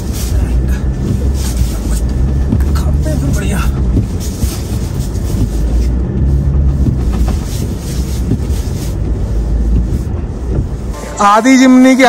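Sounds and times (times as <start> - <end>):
engine rumbling: 0.0 - 12.0
tyres crunching through snow: 0.0 - 12.0.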